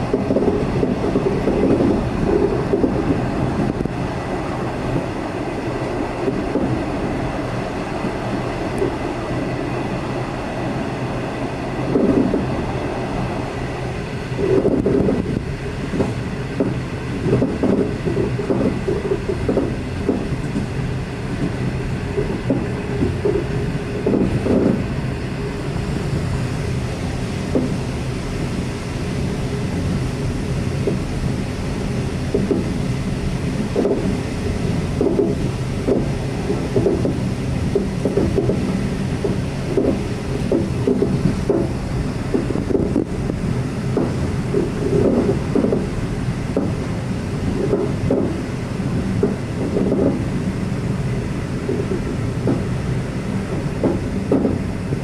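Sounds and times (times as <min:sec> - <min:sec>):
passenger train running on track: 0:00.0 - 0:55.0.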